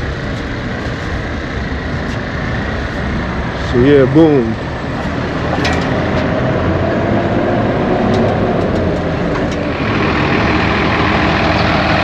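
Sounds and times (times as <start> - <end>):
motor vehicle running: 0.0 - 12.0.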